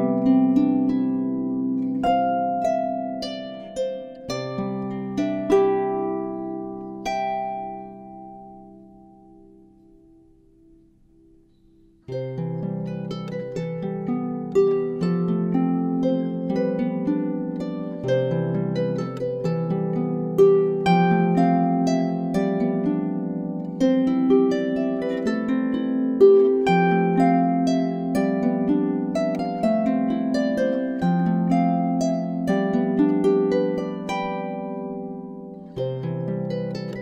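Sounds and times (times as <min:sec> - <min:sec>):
harp playing plucked melody: 0:00.0 - 0:37.0.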